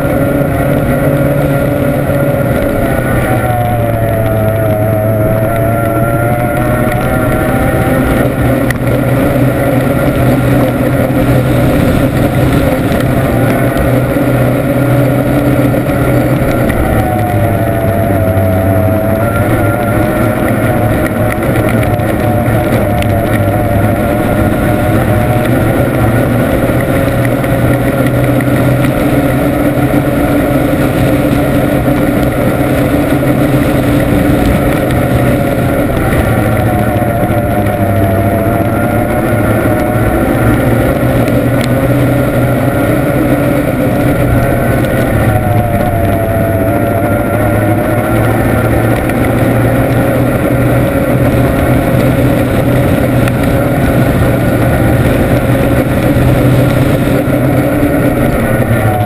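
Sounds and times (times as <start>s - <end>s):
outboard engine running hard: 0.0s - 59.0s.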